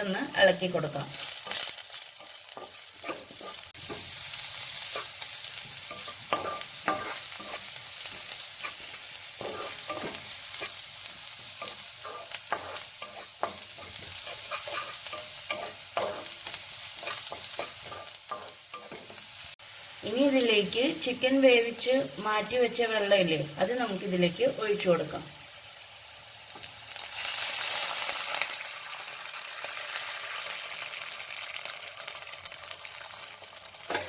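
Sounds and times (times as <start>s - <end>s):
vegetables sizzling in hot oil: 0.0s - 34.0s.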